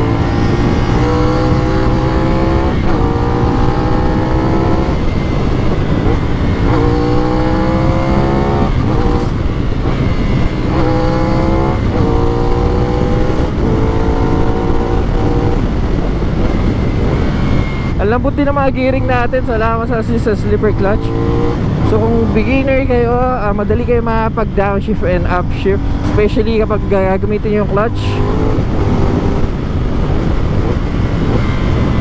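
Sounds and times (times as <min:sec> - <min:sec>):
motorcycle engine accelerating: 0:00.0 - 0:32.0
wind rush: 0:00.0 - 0:32.0.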